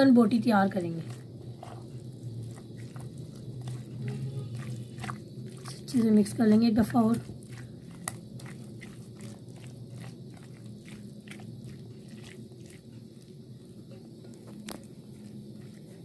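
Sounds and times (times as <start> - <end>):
low steady hum: 0.0 - 16.0
spatula squelching in bowl: 0.5 - 16.0.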